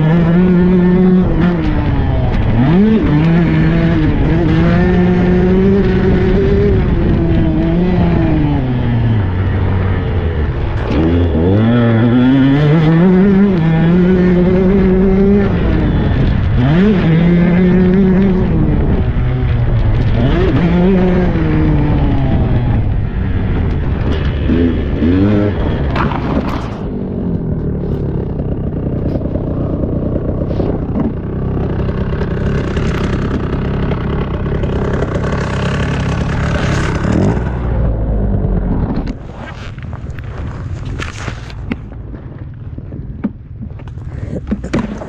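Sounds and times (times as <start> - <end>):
dirt bike engine revving: 0.0 - 39.5.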